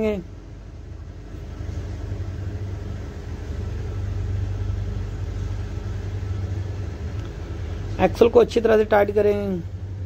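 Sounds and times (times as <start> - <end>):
engine humming and rumbling: 0.0 - 10.0.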